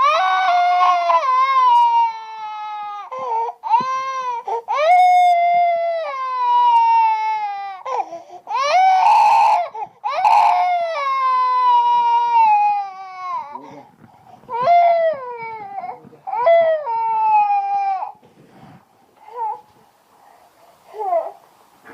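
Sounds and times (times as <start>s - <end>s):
baby crying: 0.0s - 13.9s, 14.5s - 18.2s, 19.3s - 19.7s, 20.9s - 21.4s.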